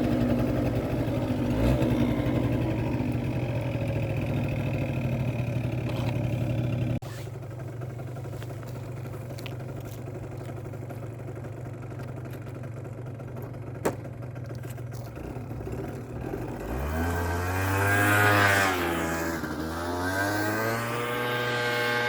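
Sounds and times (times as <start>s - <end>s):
scooter engine idling and revving: 0.0s - 22.0s.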